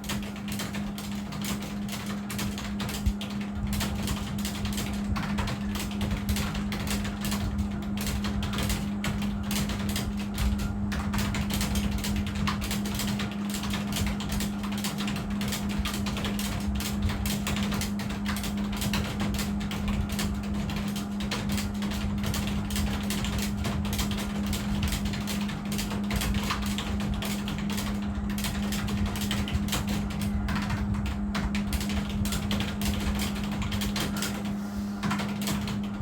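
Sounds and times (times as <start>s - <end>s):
fast keyboard typing: 0.0s - 36.0s
steady low hum: 0.0s - 36.0s.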